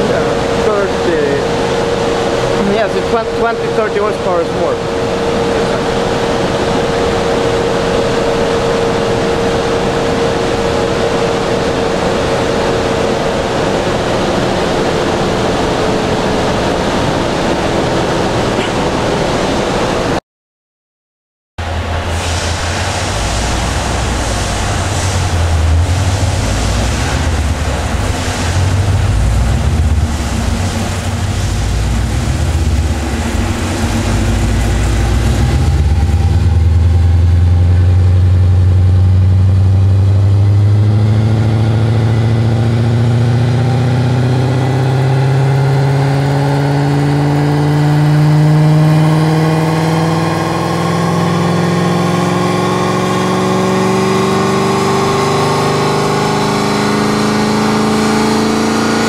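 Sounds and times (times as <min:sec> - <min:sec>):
car engine revving: 0:00.0 - 0:20.2, 0:21.6 - 0:59.0
loud rushing noise: 0:00.0 - 0:20.2, 0:21.6 - 0:59.0.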